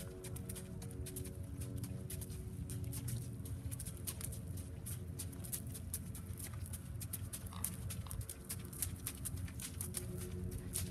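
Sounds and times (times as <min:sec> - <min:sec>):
horse hoofbeats on sand: 0:00.0 - 0:10.9
light irregular clicks: 0:00.0 - 0:10.9
steady low rumble: 0:00.0 - 0:10.9.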